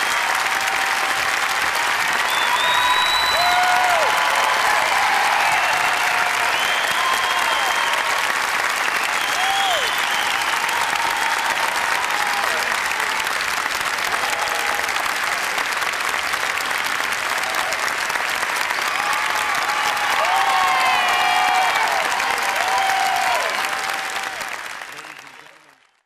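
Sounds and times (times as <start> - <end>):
audience clapping: 0.0 - 26.0.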